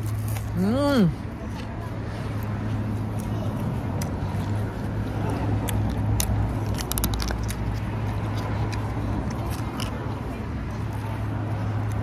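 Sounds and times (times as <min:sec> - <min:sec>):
crunchy food chewing: 0:00.0 - 0:00.6, 0:02.3 - 0:12.0.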